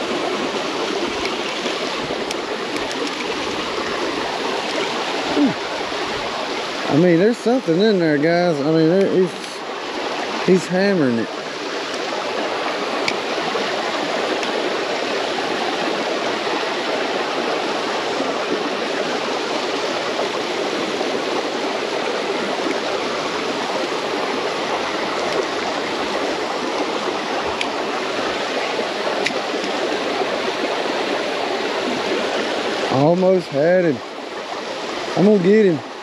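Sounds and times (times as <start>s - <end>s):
water flowing in a ditch: 0.0s - 36.0s.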